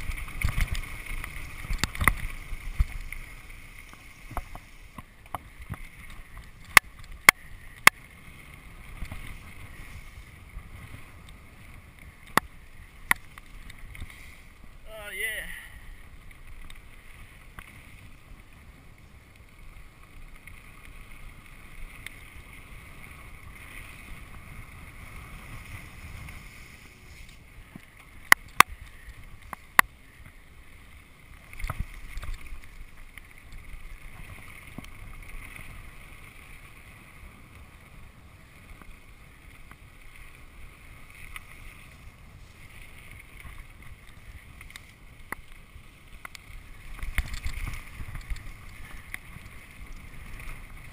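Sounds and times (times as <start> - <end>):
bike tyres rattling over trail: 0.0 - 50.9.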